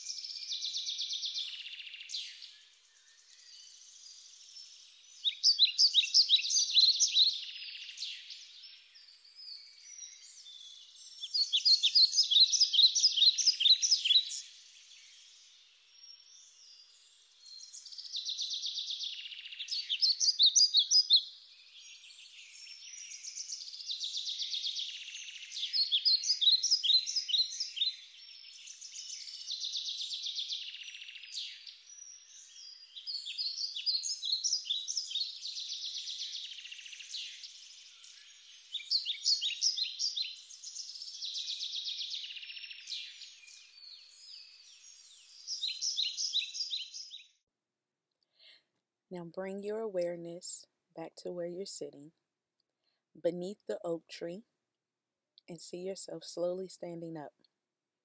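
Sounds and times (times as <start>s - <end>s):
songbirds trilling: 0.0s - 9.1s, 9.7s - 47.3s
faint bird chirping: 0.0s - 47.4s.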